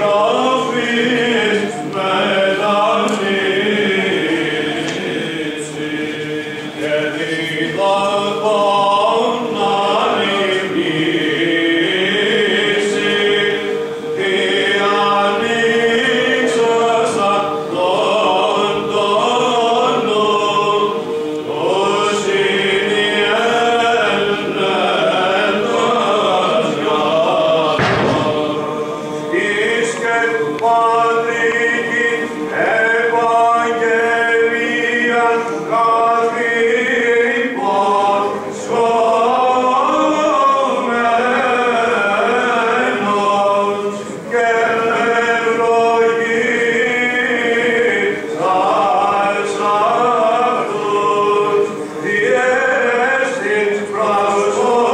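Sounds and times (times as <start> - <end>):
held vocal drone: 0.0 - 54.9
men's choir chanting: 0.0 - 54.9.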